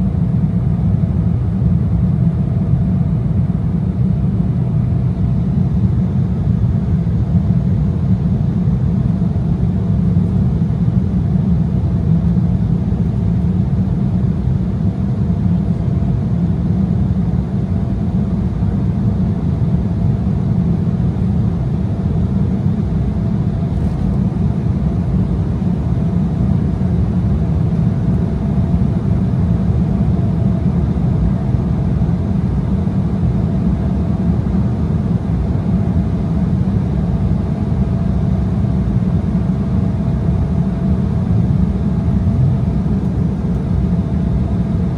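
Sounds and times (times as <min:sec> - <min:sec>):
faint steady hum: 0:00.0 - 0:44.9
jet engine cabin rumble: 0:00.0 - 0:44.9.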